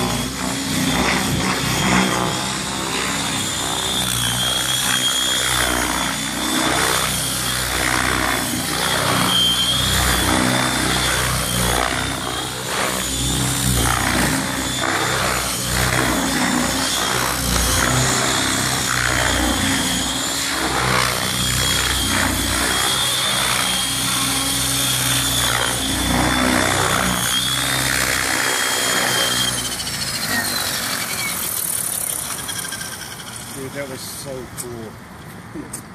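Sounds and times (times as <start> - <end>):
high whine: 0.0 - 34.9
model helicopter rotor noise: 0.0 - 35.9.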